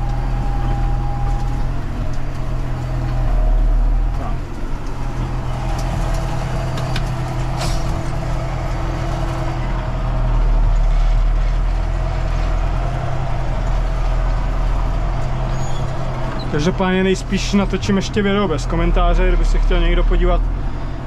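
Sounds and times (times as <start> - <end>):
tractor engine running steadily: 0.0 - 21.0.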